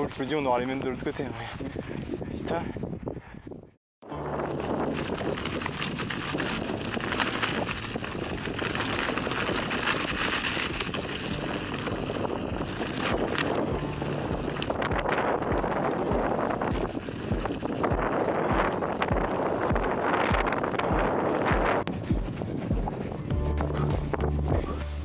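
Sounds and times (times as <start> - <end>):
bike tyres on dirt trail: 0.0 - 25.0
wind on microphone: 0.0 - 25.0
bike clicks and rattles: 4.1 - 25.0.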